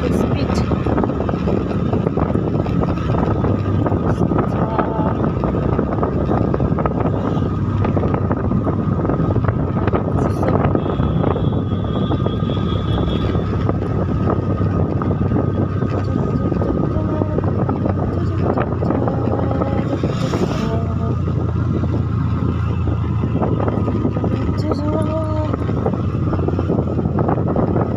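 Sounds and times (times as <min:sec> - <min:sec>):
road noise: 0:00.0 - 0:27.9
vehicle engine droning: 0:00.0 - 0:27.9
wind buffeting microphone: 0:00.0 - 0:27.9.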